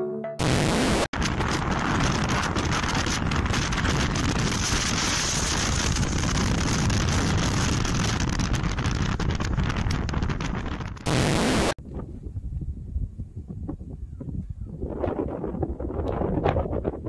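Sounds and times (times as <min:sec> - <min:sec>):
wind buffeting microphone: 0:01.2 - 0:11.2, 0:11.8 - 0:17.0.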